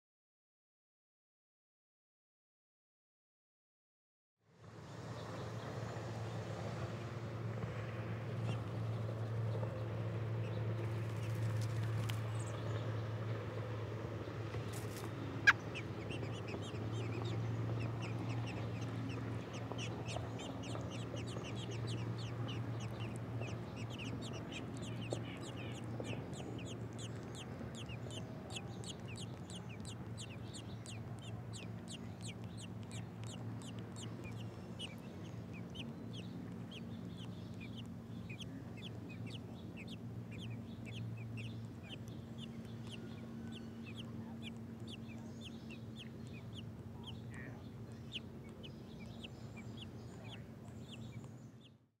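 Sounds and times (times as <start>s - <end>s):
steady low hum: 4.8s - 51.9s
nestlings peeping: 8.0s - 51.9s.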